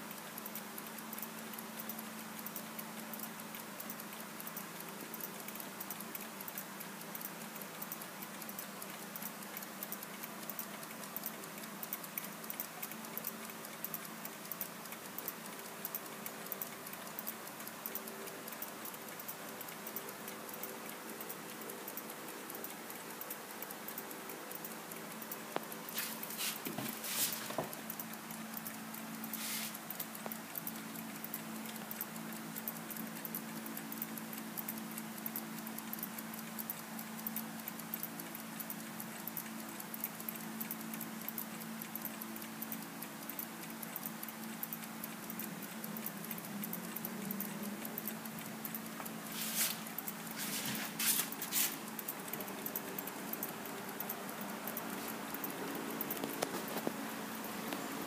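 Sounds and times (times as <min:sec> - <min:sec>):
clocks ticking: 0:00.0 - 0:58.0.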